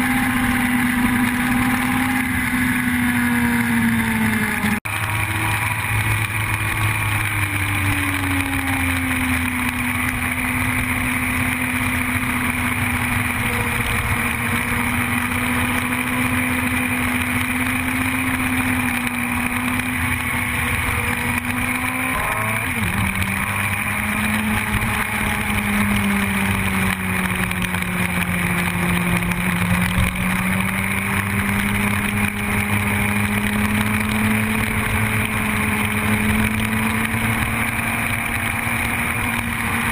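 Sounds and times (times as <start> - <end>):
sport bike engine running: 0.0 - 39.9.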